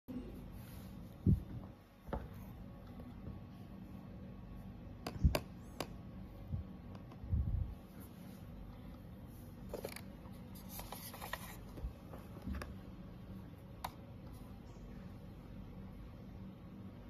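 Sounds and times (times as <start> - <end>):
steady low background noise: 0.1 - 17.0.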